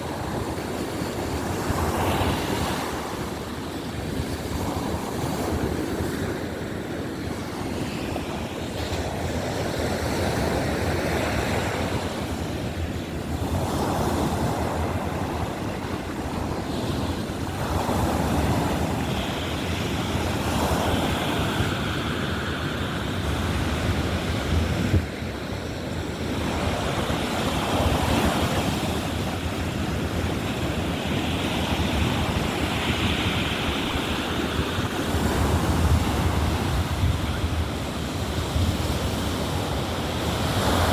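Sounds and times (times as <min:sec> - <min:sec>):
surf breaking on shore: 0:00.0 - 0:40.9
wind rumbling on microphone: 0:00.0 - 0:40.9.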